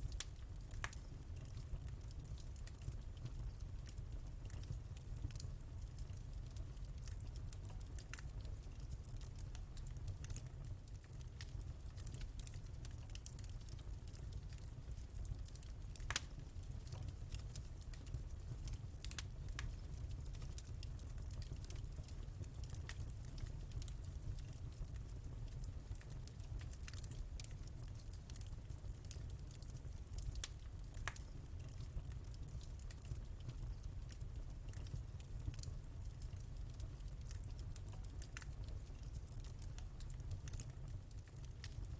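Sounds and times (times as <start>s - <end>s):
low steady fire rumble: 0.0s - 41.9s
wood fire crackling: 0.0s - 41.9s.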